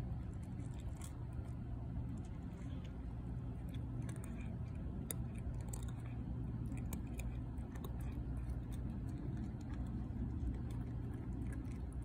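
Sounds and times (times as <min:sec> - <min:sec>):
cat crunching dry kibble: 0:00.0 - 0:12.0
low background rumble: 0:00.0 - 0:12.0.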